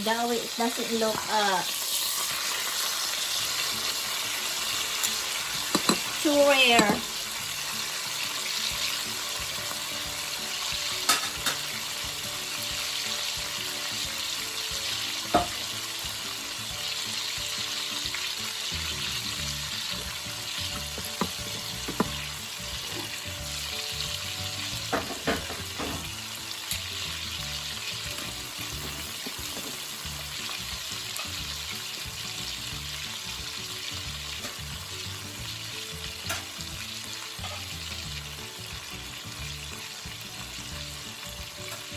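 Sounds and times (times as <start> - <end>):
steaks sizzling in a frying pan: 0.0 - 41.9.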